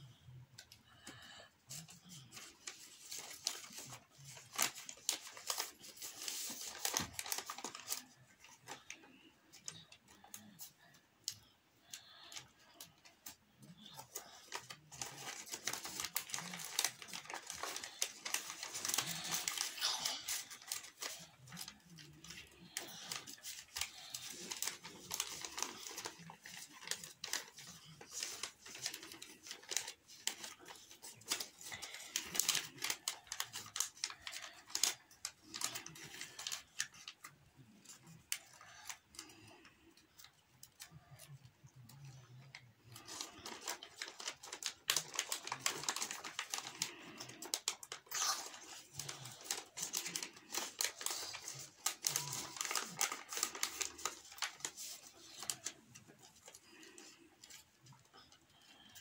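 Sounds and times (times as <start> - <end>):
paper being folded and creased: 1.7 - 59.0.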